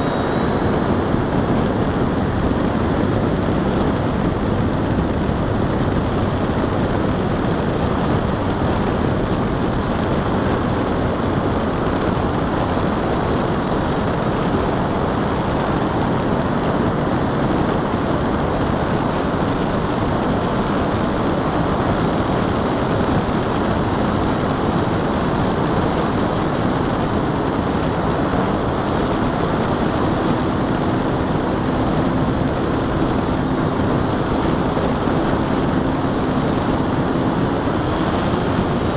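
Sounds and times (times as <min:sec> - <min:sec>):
airflow and propeller noise: 0:00.0 - 0:38.9.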